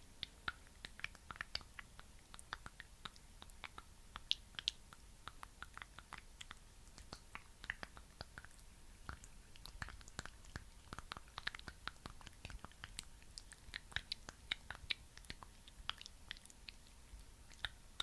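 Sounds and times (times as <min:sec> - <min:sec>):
sticky cream wet clicks: 0:00.2 - 0:18.0.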